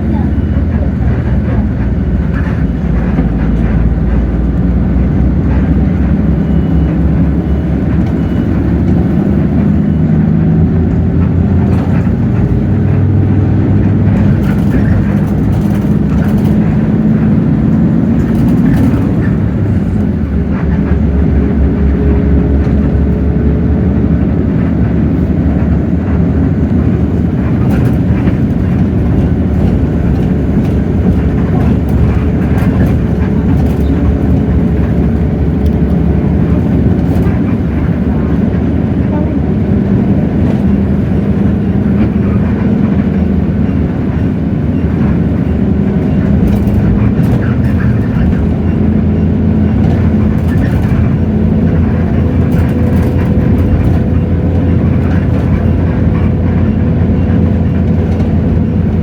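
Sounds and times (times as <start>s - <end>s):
diesel bus engine under load: 0.0s - 59.0s.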